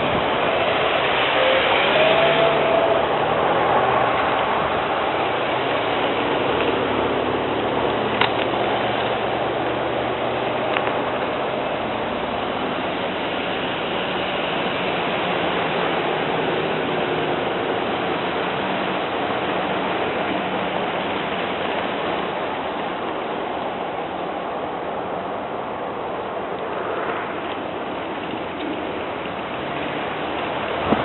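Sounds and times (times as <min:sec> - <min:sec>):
snowplow trucks and traffic rushing: 0:00.0 - 0:31.0.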